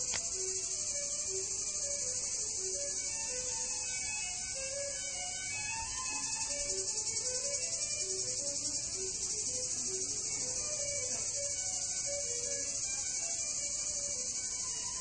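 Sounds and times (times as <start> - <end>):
faint melodic notes: 0.0 - 15.0
insects singing: 0.0 - 15.0.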